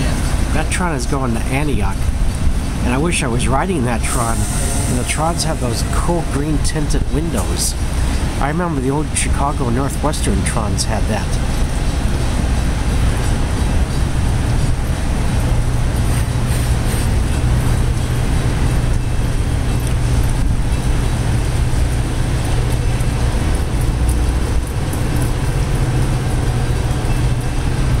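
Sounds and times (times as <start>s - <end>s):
diesel train engine drone: 0.0s - 28.0s
heavy rain hiss: 0.0s - 28.0s.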